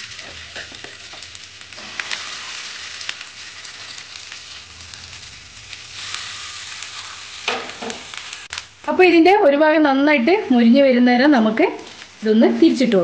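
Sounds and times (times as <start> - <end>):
hot oil sizzling in a frying pan: 0.0 - 13.0.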